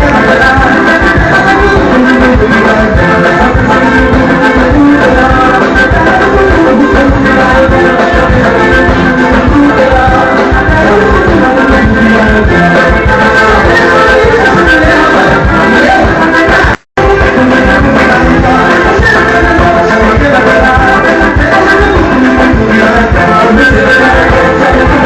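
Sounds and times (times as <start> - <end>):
latin band music: 0.0 - 25.0.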